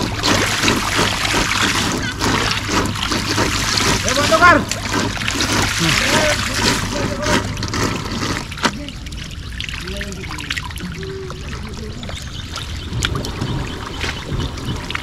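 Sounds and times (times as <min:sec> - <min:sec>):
fish flapping and splashing: 0:00.0 - 0:15.0
trickling water: 0:00.0 - 0:15.0.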